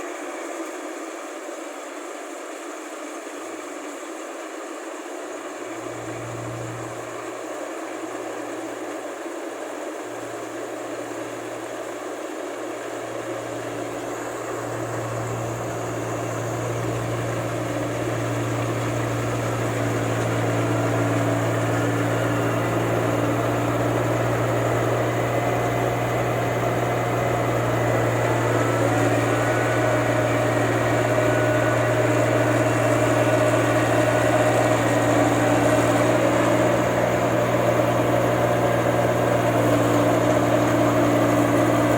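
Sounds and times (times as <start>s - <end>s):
combine harvester engine humming: 0.0s - 41.9s.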